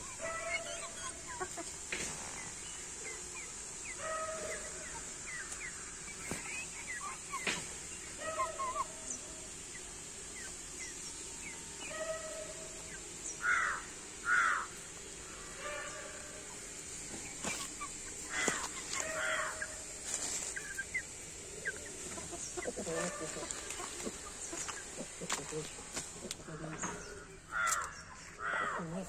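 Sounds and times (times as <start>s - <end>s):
chickens clucking: 0.0s - 13.2s, 13.9s - 29.0s.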